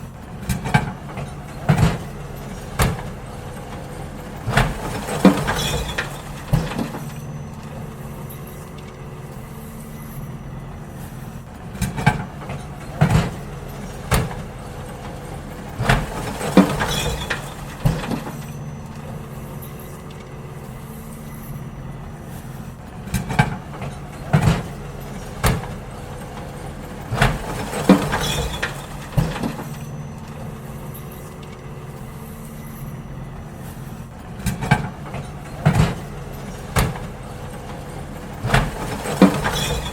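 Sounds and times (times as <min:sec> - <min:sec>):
bins clunking and banging: 0:00.0 - 0:39.9
garbage truck engine hum: 0:00.0 - 0:39.9.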